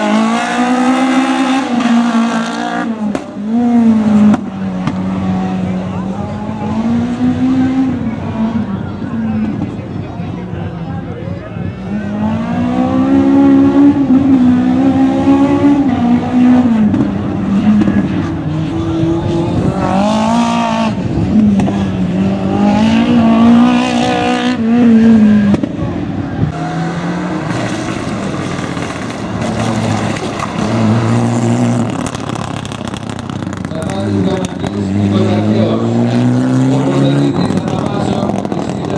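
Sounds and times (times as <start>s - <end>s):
another car engine: 0.0s - 38.9s
rally car engine revving: 0.0s - 38.9s.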